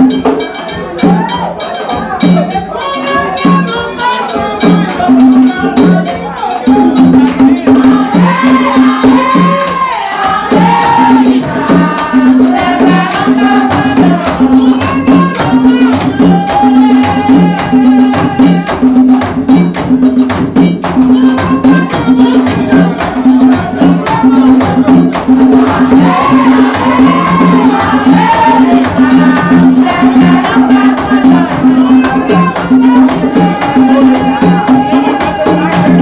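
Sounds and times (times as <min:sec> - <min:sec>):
group singing: 0:00.0 - 0:36.0
shaken and struck percussion: 0:00.0 - 0:36.0.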